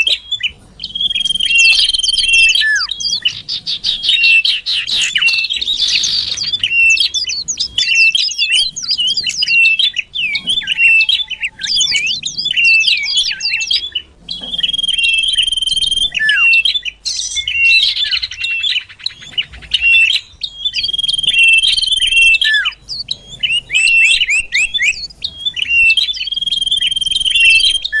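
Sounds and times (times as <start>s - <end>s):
bird chirps: 0.0s - 28.0s
bird whistles: 0.0s - 28.0s.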